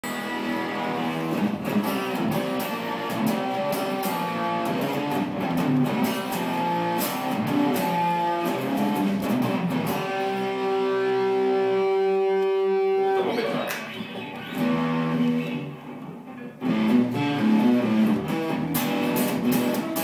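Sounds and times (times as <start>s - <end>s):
electric guitar picked notes: 0.0s - 20.0s.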